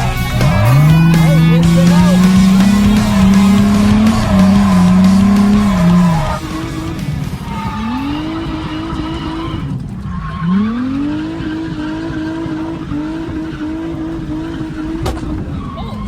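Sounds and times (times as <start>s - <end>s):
car engine revving hard: 0.0s - 16.0s
tyres squealing: 0.0s - 16.0s.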